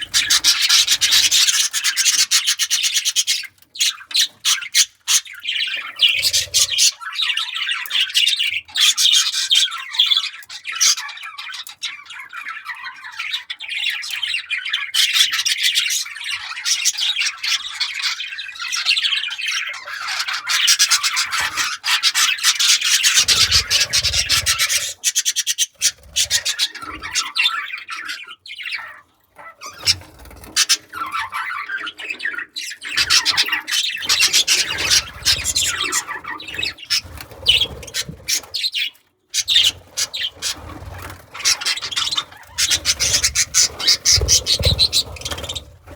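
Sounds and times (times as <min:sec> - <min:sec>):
budgerigars chattering: 0:00.0 - 0:45.9.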